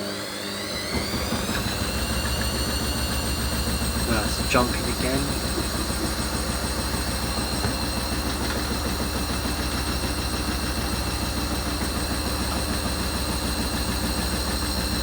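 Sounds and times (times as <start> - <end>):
washer dryer spinning: 0.0 - 15.0.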